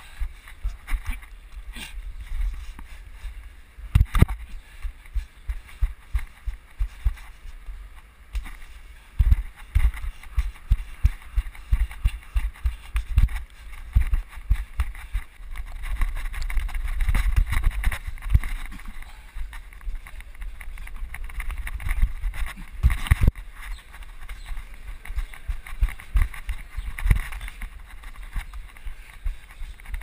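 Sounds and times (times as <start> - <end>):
running footsteps and landings: 0.0 - 30.0.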